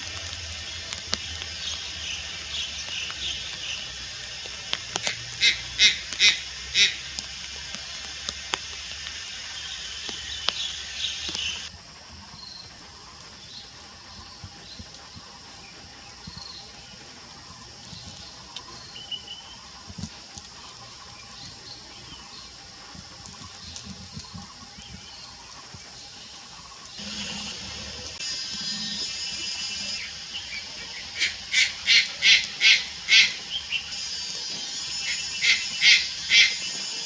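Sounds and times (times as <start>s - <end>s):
high hiss: 0.0s - 37.0s.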